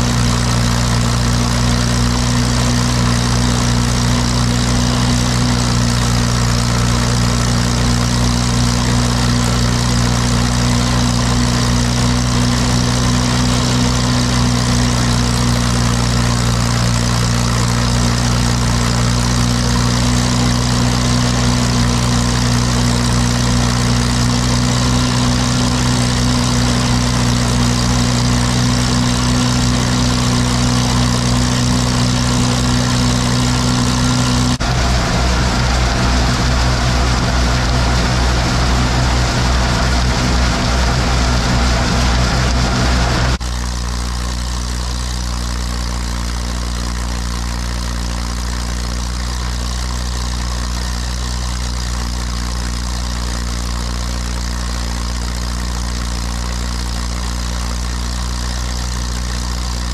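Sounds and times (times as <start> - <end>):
tractor engine running steadily: 0.0 - 59.9.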